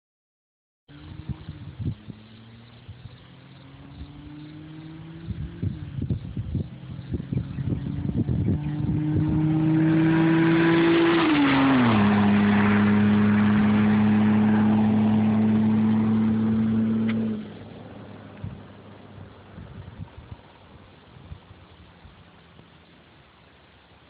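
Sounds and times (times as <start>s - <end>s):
car engine driving past: 0.9s - 21.0s.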